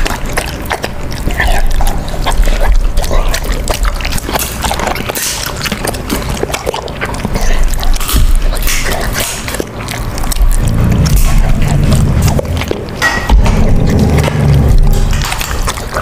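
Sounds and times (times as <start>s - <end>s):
dog chewing raw meat: 0.0s - 16.0s.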